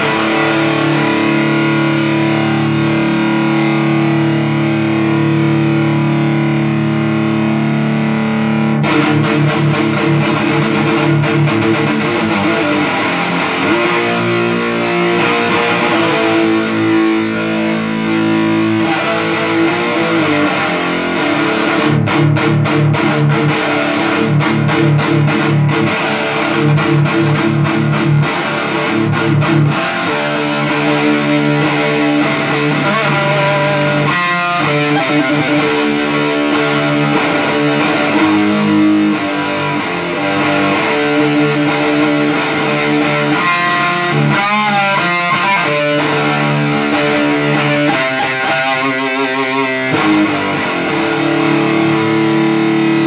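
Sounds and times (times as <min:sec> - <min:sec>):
electric guitar through amplifier: 0:00.0 - 0:53.0.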